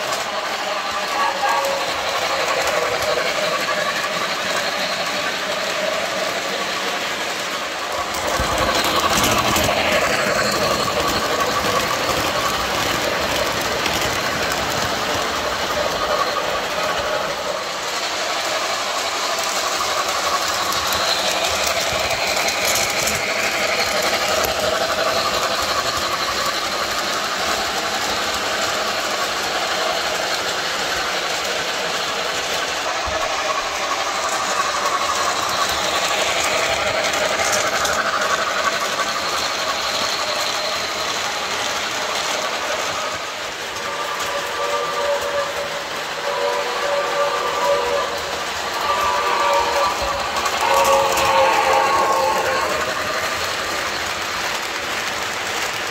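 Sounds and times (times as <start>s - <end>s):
model train rattling on track: 0.0s - 55.9s.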